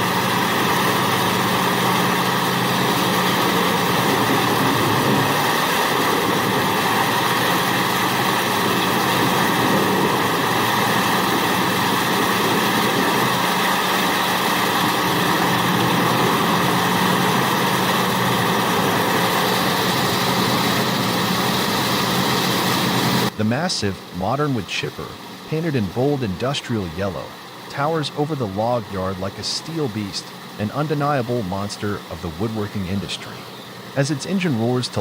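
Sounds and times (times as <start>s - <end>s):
wood chipper engine drone: 0.0s - 35.0s.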